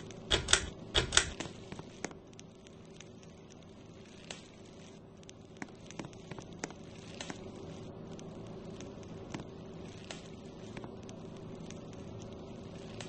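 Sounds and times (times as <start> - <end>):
ceiling fan motor hum: 0.0 - 13.0
light clicks and ticks: 0.0 - 13.0.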